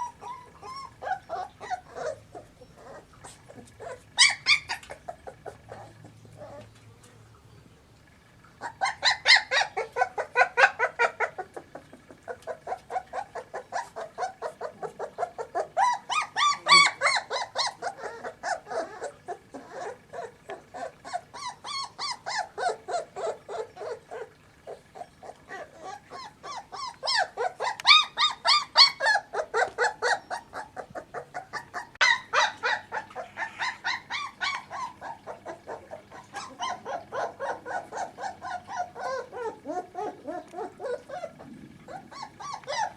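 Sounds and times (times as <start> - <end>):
puppies squeaking and whimpering: 0.0 - 6.9, 8.4 - 42.9.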